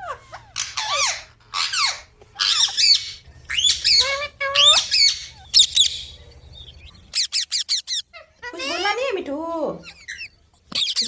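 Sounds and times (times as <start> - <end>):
parrot squawking: 0.0 - 9.2, 9.8 - 11.0.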